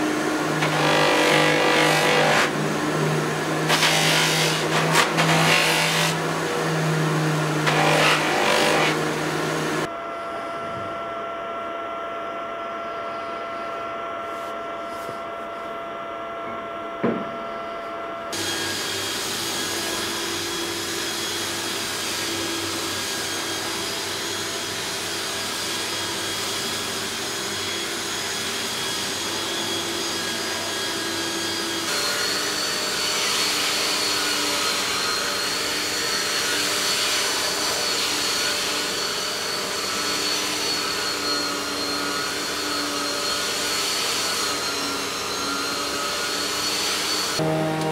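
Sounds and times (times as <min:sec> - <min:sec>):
cloth wheel polishing wood: 0:00.0 - 0:09.9, 0:18.4 - 0:47.9
bench buffer motor hum: 0:00.0 - 0:25.2, 0:27.0 - 0:47.9.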